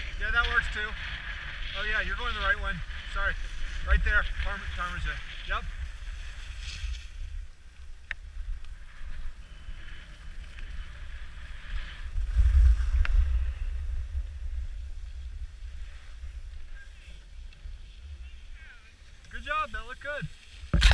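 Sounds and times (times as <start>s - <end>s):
skis sliding on packed snow: 0.0s - 20.7s.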